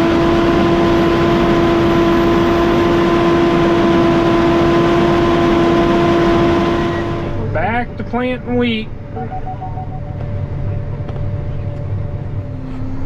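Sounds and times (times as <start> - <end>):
farm machine engine whining: 0.0 - 13.0.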